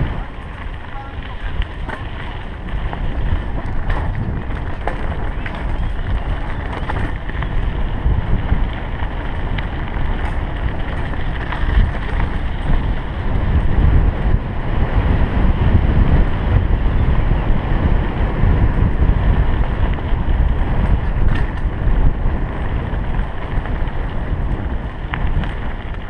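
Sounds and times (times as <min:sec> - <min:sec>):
tyres rumbling over gravel: 0:00.0 - 0:26.0
wind buffeting microphone: 0:00.0 - 0:26.0.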